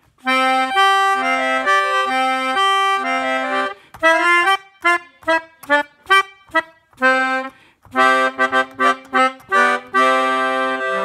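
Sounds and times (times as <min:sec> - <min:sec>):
melodica playing: 0:00.2 - 0:11.0.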